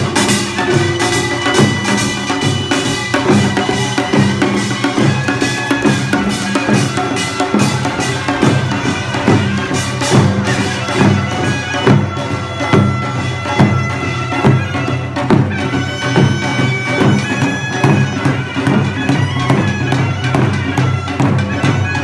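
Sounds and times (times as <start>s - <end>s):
nasal wind instrument: 0.0s - 22.0s
steady drum beat: 0.0s - 22.0s.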